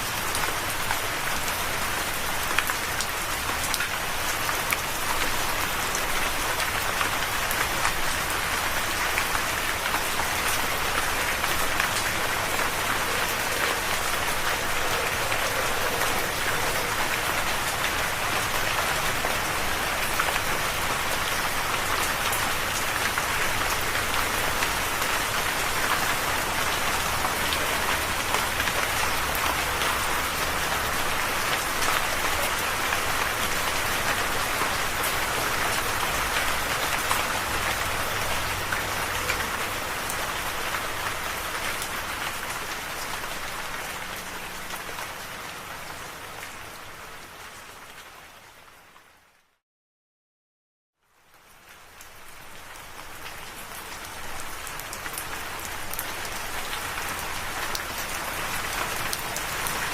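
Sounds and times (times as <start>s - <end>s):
rain drops pattering: 0.0s - 49.6s, 51.0s - 59.9s.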